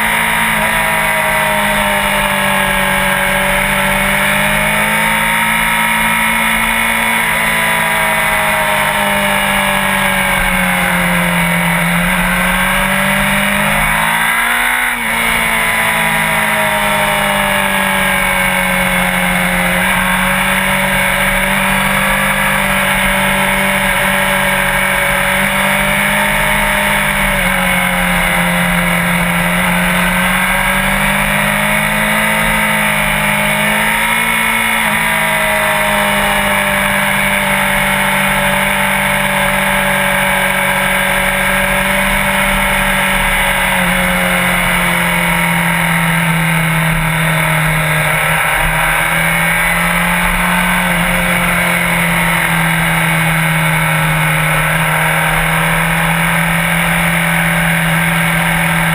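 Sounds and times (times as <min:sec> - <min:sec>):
sport bike engine running: 0:00.0 - 0:58.9.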